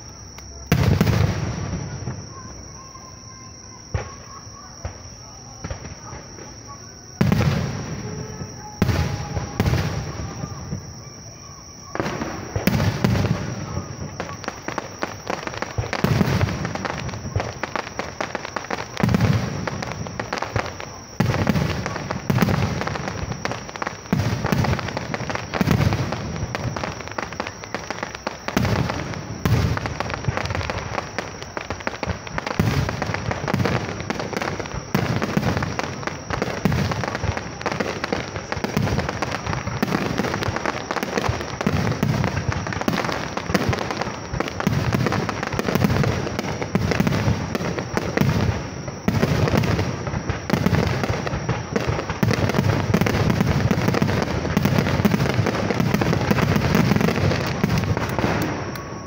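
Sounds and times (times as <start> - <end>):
firework crackle: 0.0 - 59.0
firework shells booming: 0.0 - 59.0.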